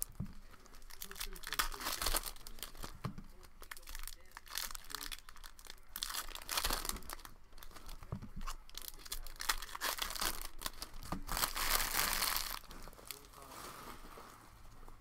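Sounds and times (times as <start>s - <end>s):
foil wrapper crinkling and tearing: 0.0s - 14.4s.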